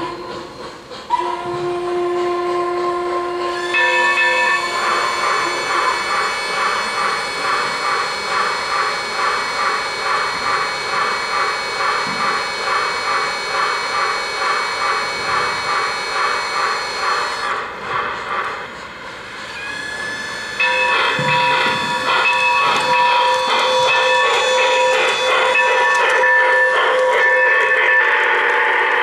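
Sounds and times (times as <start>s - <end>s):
rhythmic steam chuff: 0.0s - 29.0s.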